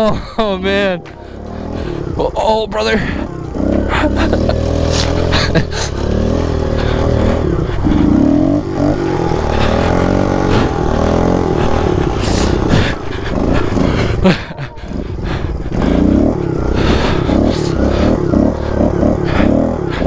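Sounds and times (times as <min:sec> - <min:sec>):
pit bike engine revving: 0:00.0 - 0:20.0.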